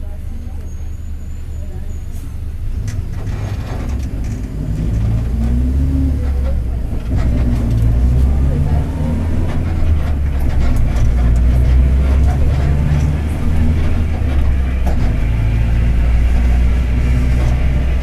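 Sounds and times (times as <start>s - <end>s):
bus diesel engine rumble: 0.0s - 18.0s.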